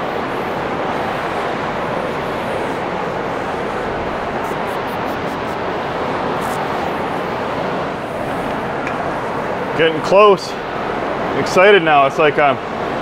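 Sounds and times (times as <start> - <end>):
exhaust fans rushing: 0.0 - 13.0.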